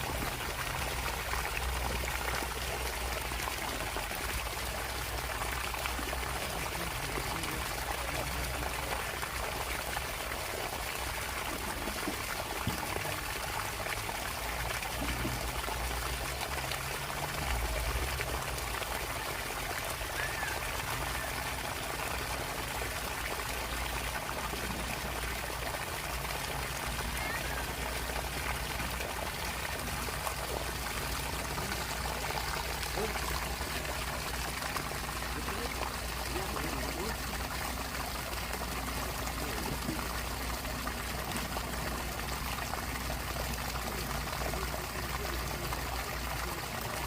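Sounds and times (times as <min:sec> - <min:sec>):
water pouring from pump outlet: 0:00.0 - 0:47.0.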